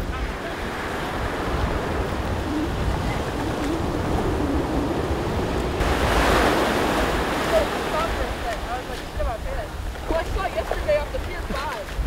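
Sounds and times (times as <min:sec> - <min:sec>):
ocean surf breaking: 0:00.0 - 0:12.0
wind rumbling on microphone: 0:00.0 - 0:12.0.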